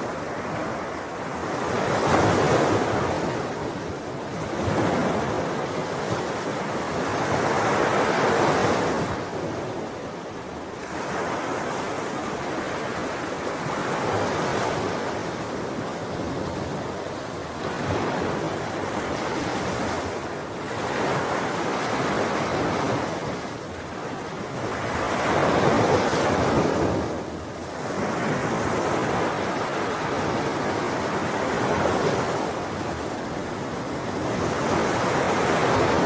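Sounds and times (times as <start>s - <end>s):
sea waves breaking on shore: 0.0s - 36.0s.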